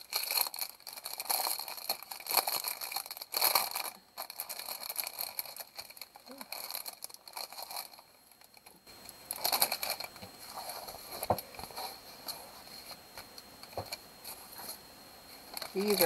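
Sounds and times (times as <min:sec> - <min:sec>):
plastic wrap and paper crinkling: 0:00.0 - 0:16.0.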